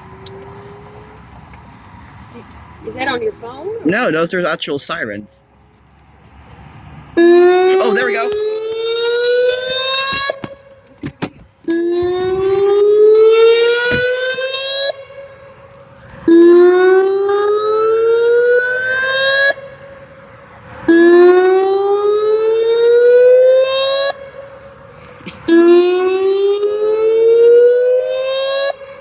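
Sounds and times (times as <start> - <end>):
warning siren whooping: 0.0 - 2.0, 7.2 - 11.0, 11.6 - 29.0.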